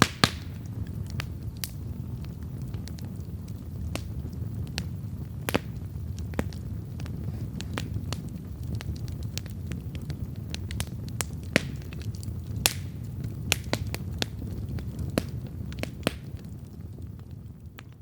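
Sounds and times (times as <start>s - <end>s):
campfire crackling: 0.0s - 18.0s
rush of flames: 0.0s - 18.0s.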